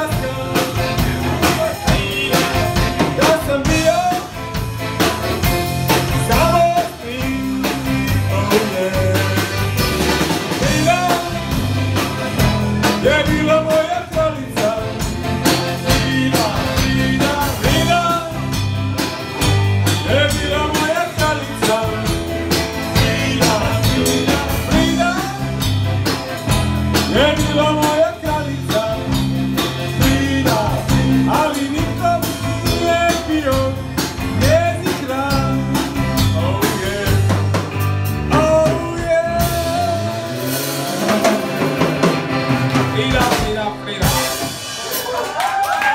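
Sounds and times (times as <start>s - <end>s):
person singing: 0.0s - 4.4s, 6.0s - 11.7s, 12.8s - 18.6s, 19.8s - 25.6s, 26.9s - 37.6s, 38.2s - 41.7s, 42.7s - 45.0s
accordion: 0.0s - 44.8s
electric bass: 0.0s - 45.2s
drum kit: 0.0s - 45.9s
guitar: 0.0s - 45.9s.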